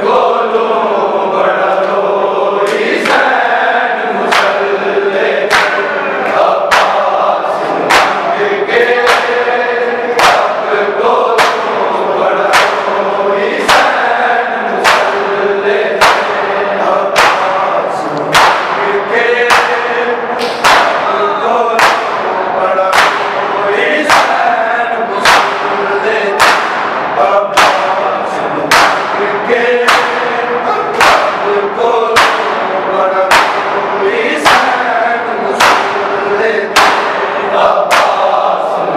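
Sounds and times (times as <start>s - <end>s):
male chorus chanting: 0.0s - 38.9s
men striking chests in unison: 0.0s - 38.9s.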